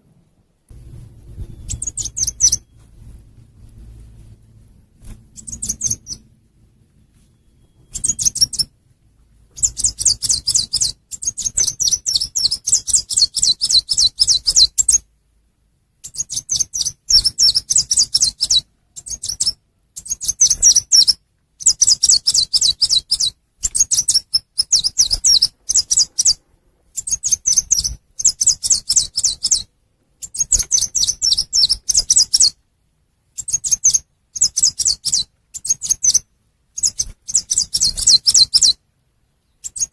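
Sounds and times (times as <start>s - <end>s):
bird chirping: 0.9s - 3.8s, 5.0s - 8.8s, 9.4s - 15.1s, 16.0s - 32.6s, 33.3s - 39.9s.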